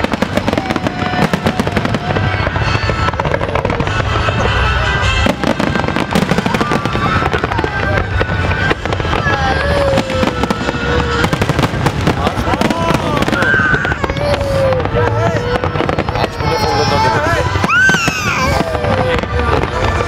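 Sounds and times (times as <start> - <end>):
fireworks launching and bursting: 0.0 - 20.0.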